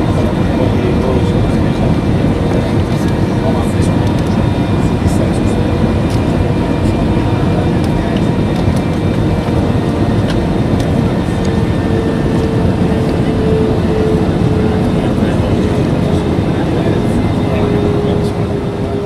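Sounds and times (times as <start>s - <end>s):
airflow and engine noise: 0.0s - 19.0s.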